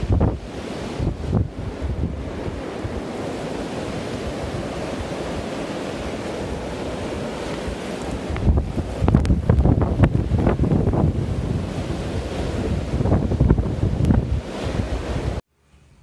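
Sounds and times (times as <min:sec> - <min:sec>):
strong wind blowing: 0:00.0 - 0:15.4
wind buffeting microphone: 0:00.0 - 0:15.4.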